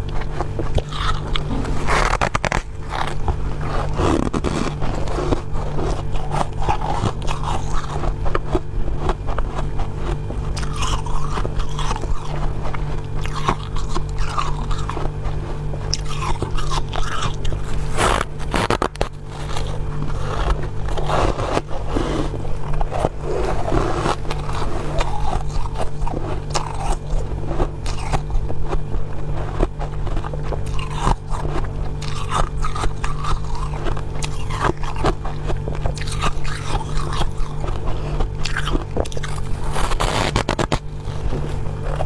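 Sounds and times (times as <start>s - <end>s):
chewing crunchy frost: 0.0s - 42.0s
steady low hum: 0.0s - 42.0s.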